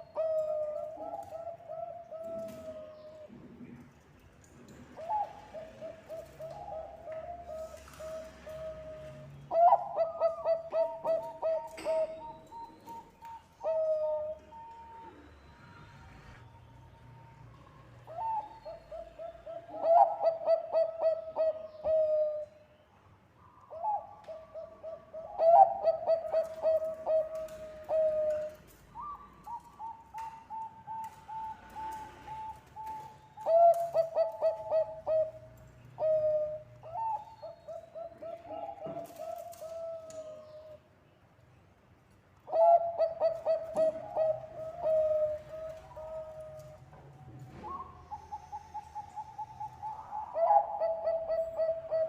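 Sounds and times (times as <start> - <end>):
dove cooing: 0.0 - 3.8, 4.9 - 16.4, 17.9 - 22.5, 23.7 - 40.8, 42.5 - 52.0.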